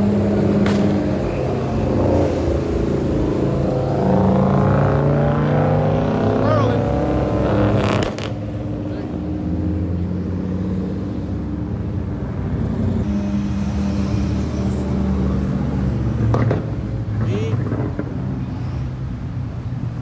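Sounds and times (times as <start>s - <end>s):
cars driving slowly past: 0.0s - 20.0s.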